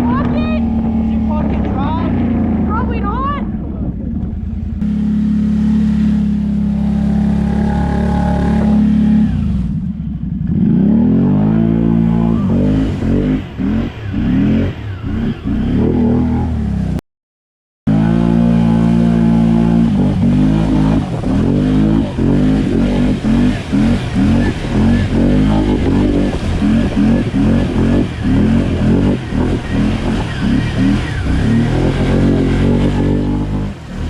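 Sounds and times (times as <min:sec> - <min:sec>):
quad bike engine revving: 0:00.0 - 0:17.0, 0:17.9 - 0:34.0.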